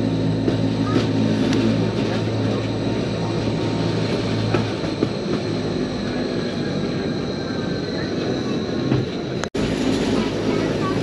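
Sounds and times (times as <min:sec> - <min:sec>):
electric train drive hum: 0:00.0 - 0:11.0.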